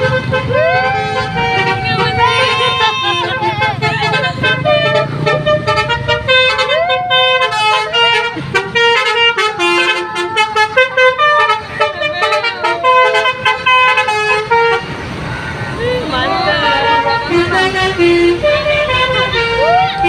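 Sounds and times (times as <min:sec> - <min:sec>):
musical bus air horn: 0:00.0 - 0:15.7, 0:16.4 - 0:20.0.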